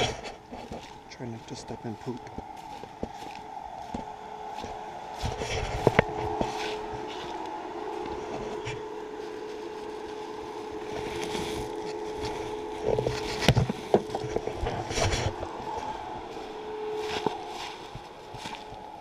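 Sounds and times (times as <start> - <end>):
footsteps through brush: 0.0 - 19.0
steady hum: 0.0 - 19.0.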